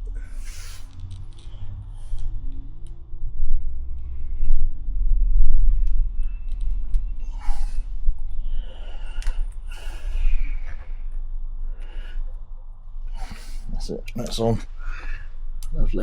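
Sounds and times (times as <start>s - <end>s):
heavy low rumble: 0.0s - 16.0s.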